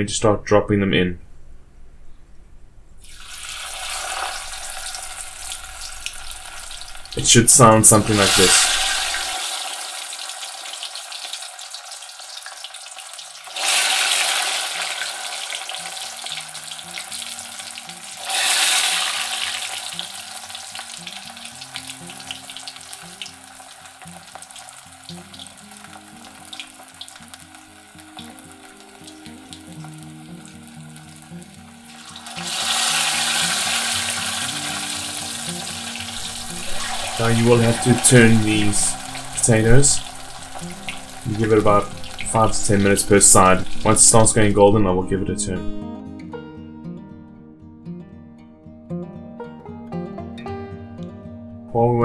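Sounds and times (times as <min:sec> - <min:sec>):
potatoes deep-frying in oil: 0:03.0 - 0:44.7.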